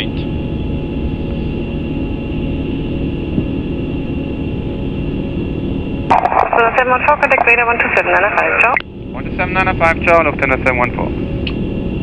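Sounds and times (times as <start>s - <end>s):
low rumble of airflow and engines: 0.0s - 12.0s.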